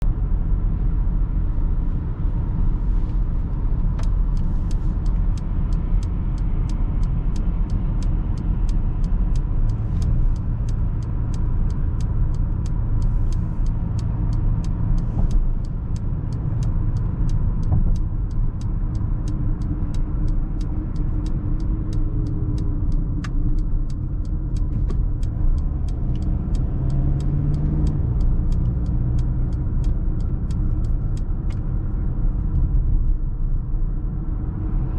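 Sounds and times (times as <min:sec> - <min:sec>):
diesel engine rumble: 0:00.0 - 0:34.9
road noise: 0:00.0 - 0:34.9
regular ticking: 0:03.8 - 0:33.0.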